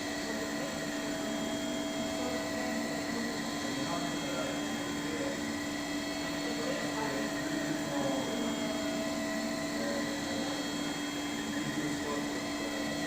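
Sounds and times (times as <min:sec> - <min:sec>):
machine hum with constant tones: 0:00.0 - 0:13.0.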